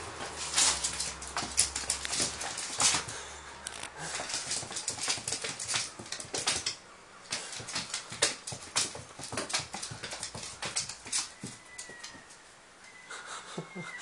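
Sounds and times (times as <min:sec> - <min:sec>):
cat claws skidding on floor: 0:00.0 - 0:12.4.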